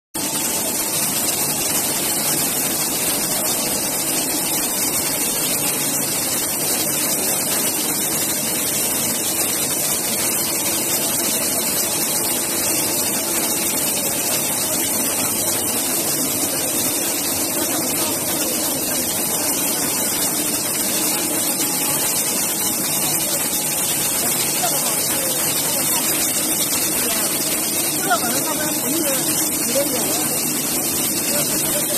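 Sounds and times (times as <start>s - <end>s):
machinery hiss and hum: 0.2s - 31.9s.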